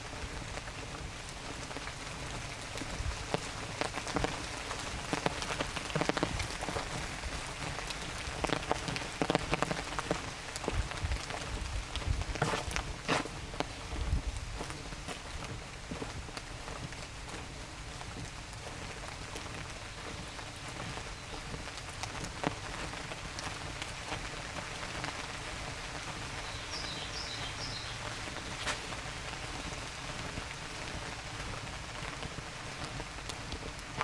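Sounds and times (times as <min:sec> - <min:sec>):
light rain patter in forest: 0:00.0 - 0:34.0.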